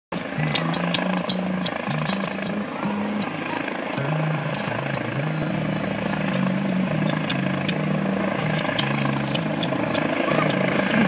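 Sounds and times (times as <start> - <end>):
helicopter flying overhead: 0.1 - 11.0.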